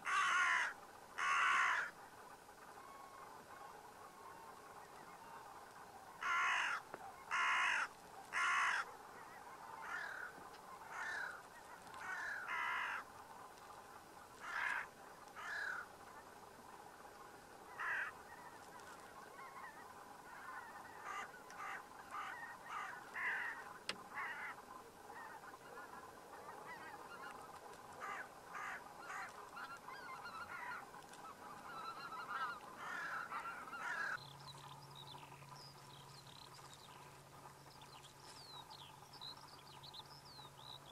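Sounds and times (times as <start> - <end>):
flock of birds calling: 0.0 - 40.9.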